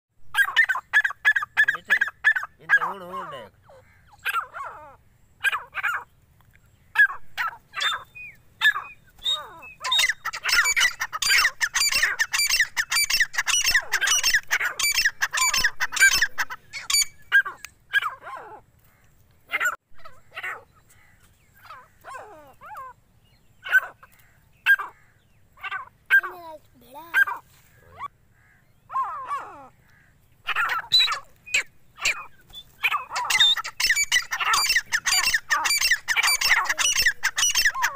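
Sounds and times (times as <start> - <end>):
chicks calling: 0.3 - 18.6, 23.6 - 37.9.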